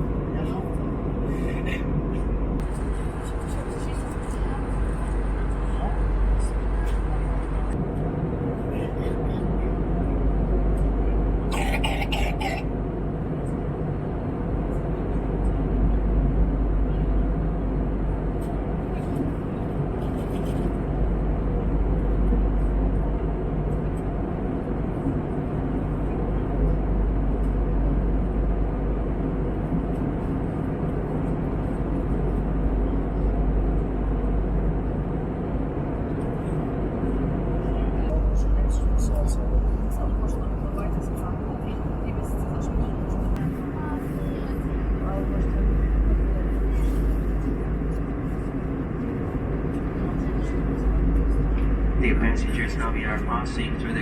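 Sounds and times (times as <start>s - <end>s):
airplane cabin engine drone: 0.0s - 54.0s.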